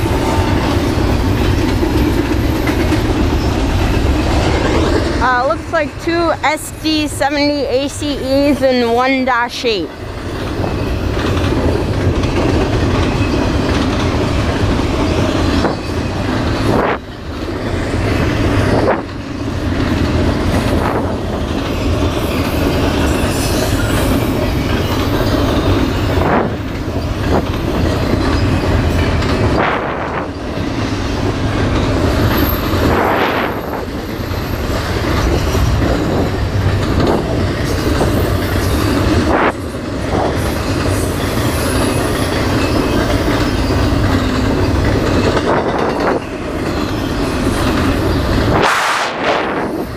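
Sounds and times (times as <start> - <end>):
freight train wheels rumbling on rail: 0.0 - 49.9.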